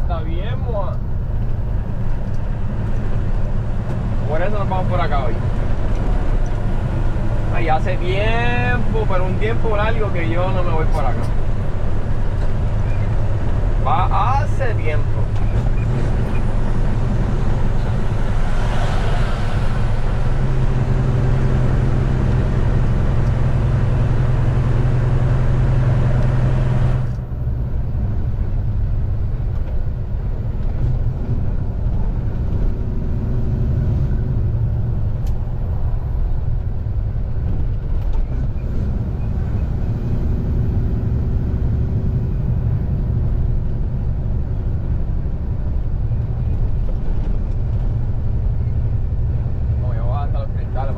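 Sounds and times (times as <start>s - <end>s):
road noise hiss: 0.0s - 50.9s
truck diesel engine drone: 0.0s - 50.9s.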